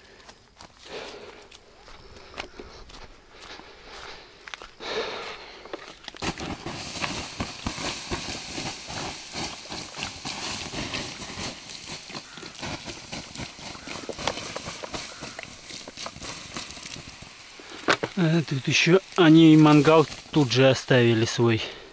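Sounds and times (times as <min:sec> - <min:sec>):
footsteps through dry grass: 0:00.0 - 0:21.9.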